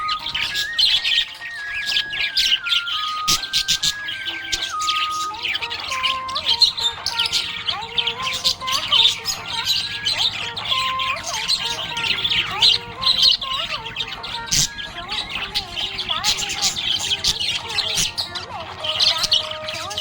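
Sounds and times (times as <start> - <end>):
budgerigars chirping: 0.0 - 20.0
whistled notes: 0.0 - 20.0.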